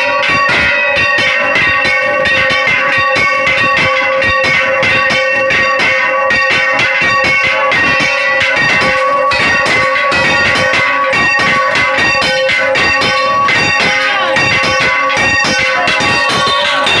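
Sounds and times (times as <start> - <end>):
church bells clanging: 0.0 - 17.0
steady bell ringing hum: 0.0 - 17.0.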